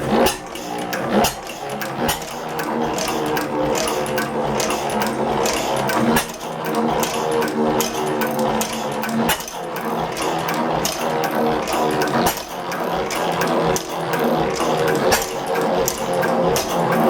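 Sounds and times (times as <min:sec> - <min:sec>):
stationary engine clattering: 0:00.0 - 0:17.0.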